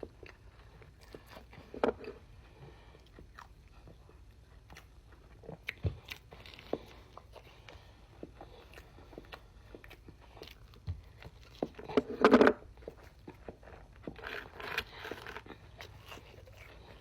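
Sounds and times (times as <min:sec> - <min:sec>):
biting and chewing food: 0:00.0 - 0:17.0.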